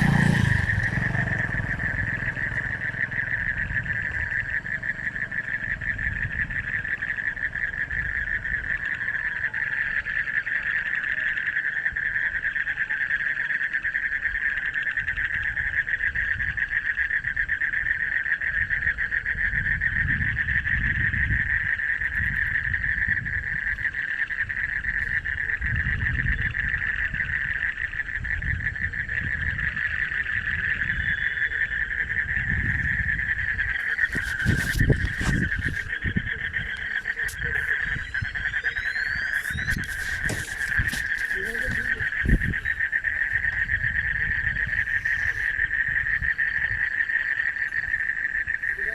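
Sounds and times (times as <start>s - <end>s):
low rumbles: 0.0s - 10.2s, 18.6s - 48.9s
frog chorus trilling: 0.0s - 48.9s.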